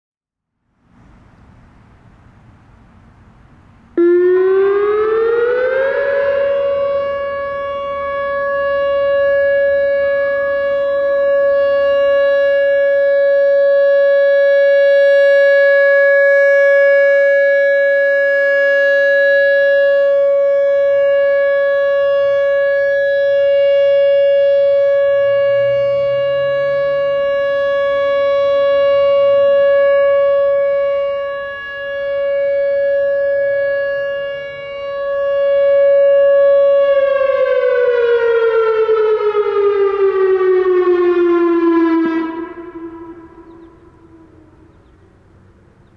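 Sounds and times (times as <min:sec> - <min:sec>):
rotating electronic siren tone: 0:04.0 - 0:44.9.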